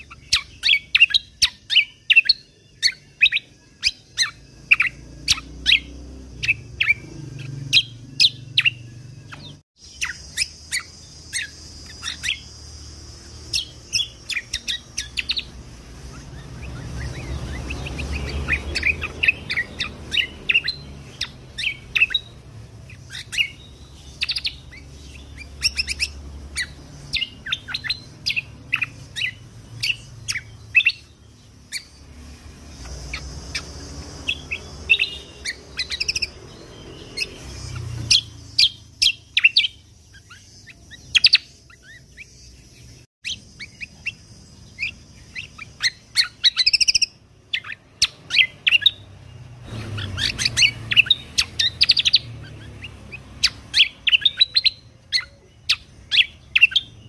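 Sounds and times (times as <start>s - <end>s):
songbird chirping and trilling: 0.0s - 57.0s.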